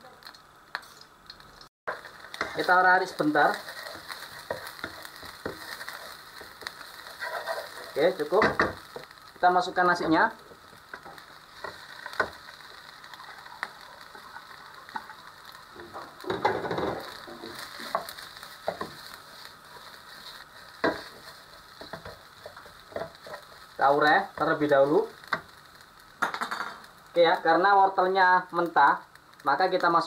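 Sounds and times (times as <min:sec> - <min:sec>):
rice sizzling in a pan: 0:00.0 - 0:30.0.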